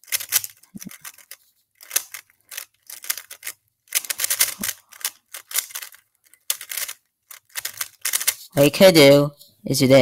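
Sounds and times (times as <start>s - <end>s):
plastic puzzle cube clacking: 0.0s - 8.5s.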